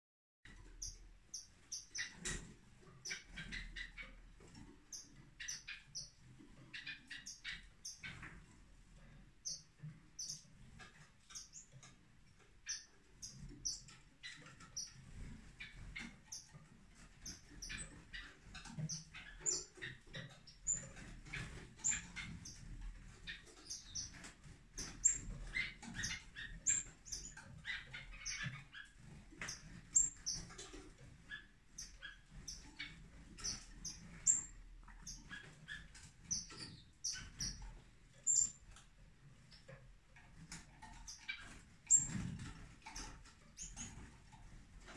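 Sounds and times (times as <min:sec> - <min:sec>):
finches chirping: 0:00.5 - 0:39.8, 0:40.4 - 0:44.9.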